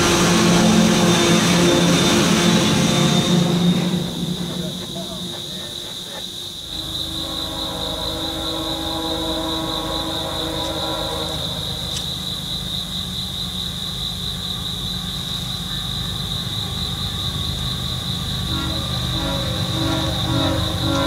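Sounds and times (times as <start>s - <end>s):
train horn: 0.0s - 12.9s, 15.7s - 21.0s
crickets trilling: 0.0s - 21.0s
low diesel rumble: 0.0s - 21.0s.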